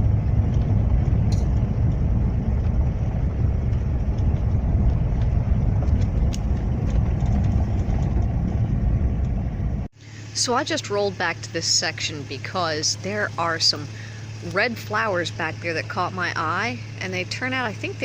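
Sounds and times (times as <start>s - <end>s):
vehicle rumbling on dirt road: 0.0s - 18.0s.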